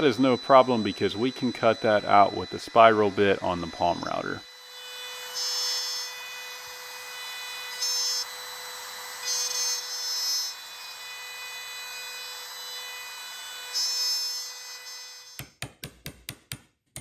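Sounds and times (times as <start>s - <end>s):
router whining while cutting wood: 0.0s - 15.5s.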